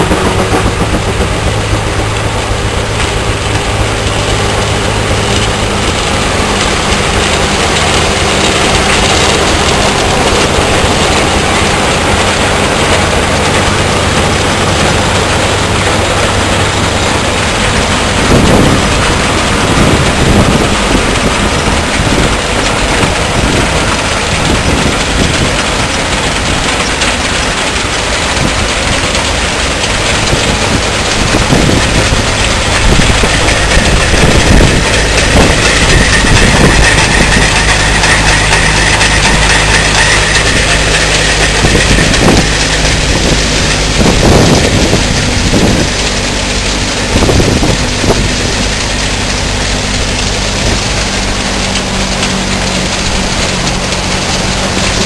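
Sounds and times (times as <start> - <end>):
high mechanical whine: 0.0 - 55.0
threshing machine clatter: 0.0 - 55.0
tractor engine hum: 0.0 - 55.0.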